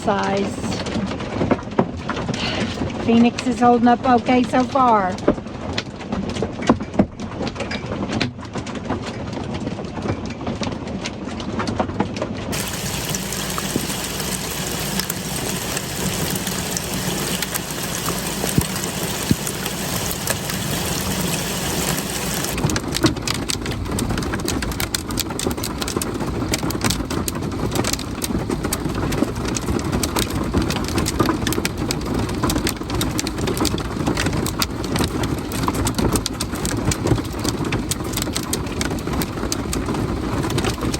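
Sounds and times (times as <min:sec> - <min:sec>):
hail clattering on metal: 0:00.0 - 0:40.9.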